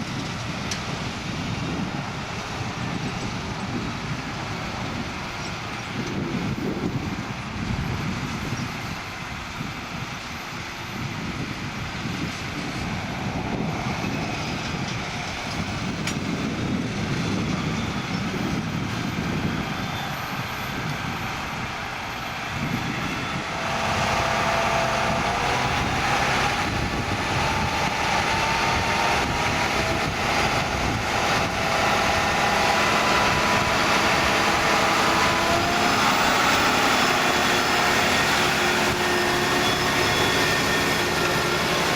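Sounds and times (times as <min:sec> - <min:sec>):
steady whine: 0:00.0 - 0:41.9
tractor diesel engine running: 0:00.0 - 0:41.9.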